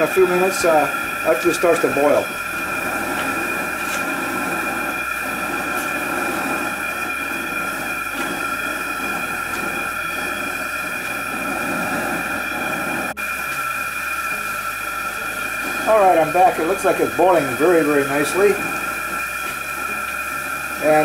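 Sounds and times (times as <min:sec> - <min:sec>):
gas burner flame rushing: 0:00.0 - 0:21.0
high-pitched whine: 0:00.0 - 0:21.0.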